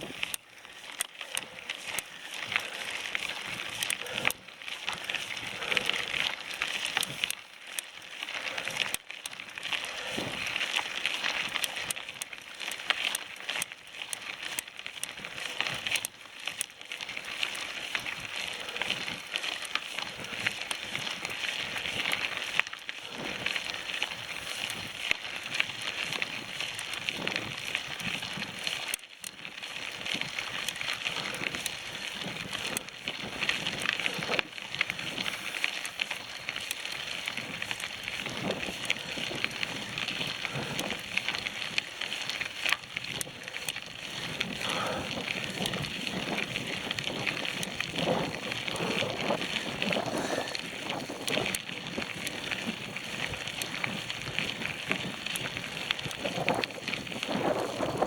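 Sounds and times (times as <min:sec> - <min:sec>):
bicycle tyres on dirt trail: 0:00.0 - 0:58.0.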